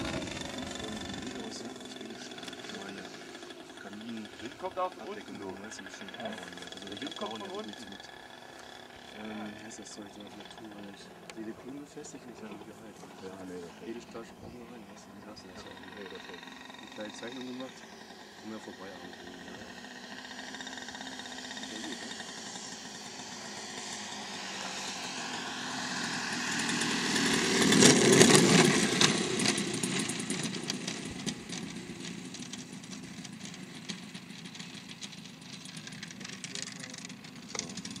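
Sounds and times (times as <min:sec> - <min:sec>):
model airplane engine passing: 0:00.0 - 0:38.0.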